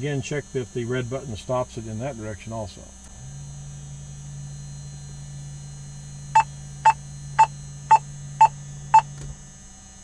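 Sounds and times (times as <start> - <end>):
low motor hum: 0.0 - 10.0.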